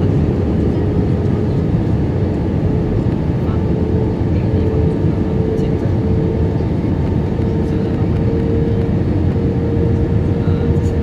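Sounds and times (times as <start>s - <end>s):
engine and airflow rush: 0.0s - 11.0s
steady humming tone: 0.0s - 11.0s.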